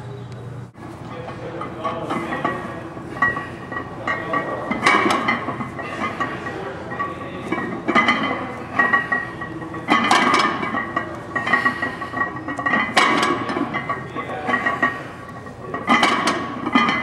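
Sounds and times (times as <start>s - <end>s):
weight plates clanking: 1.0s - 17.0s.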